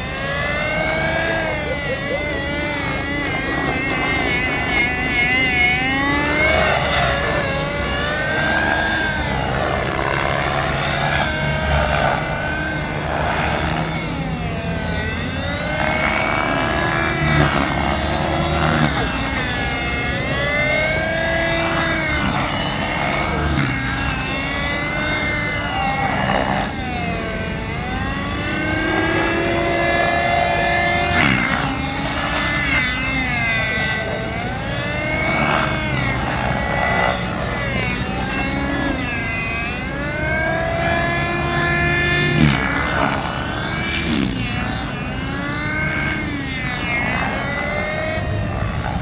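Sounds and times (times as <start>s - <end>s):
rc helicopter engine and rotor whine: 0.0s - 49.0s.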